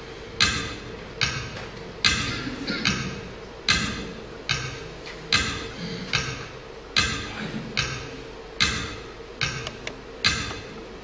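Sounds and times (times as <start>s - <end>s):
faint steady hum: 0.0s - 11.0s
clock ticking: 0.4s - 10.7s.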